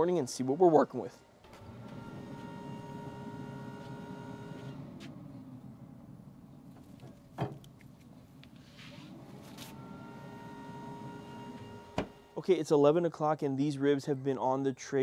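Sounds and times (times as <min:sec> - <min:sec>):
motor humming with whine: 0:00.0 - 0:12.4.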